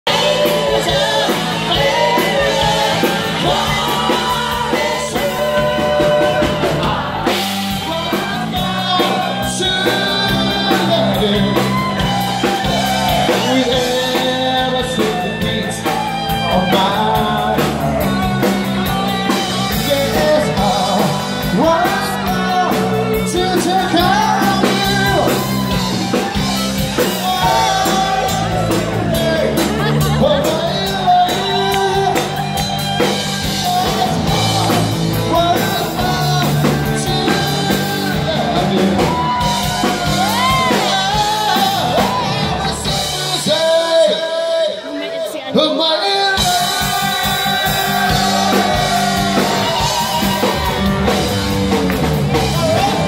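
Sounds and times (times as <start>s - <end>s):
lead singer singing: 0.0s - 53.0s
live rock band: 0.0s - 53.0s.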